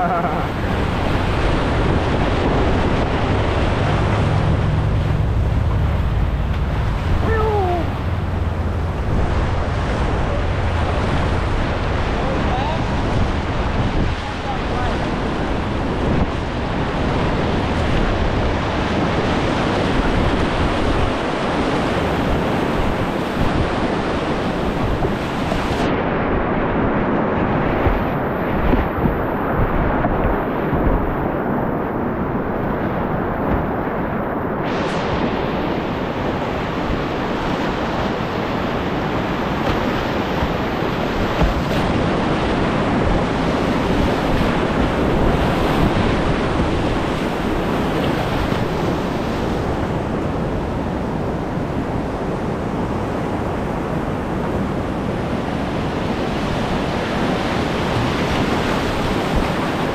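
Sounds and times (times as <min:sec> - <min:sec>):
whitewater rapids rushing: 0:00.0 - 0:25.9, 0:27.2 - 0:51.0
wind buffeting microphone: 0:00.0 - 0:59.9.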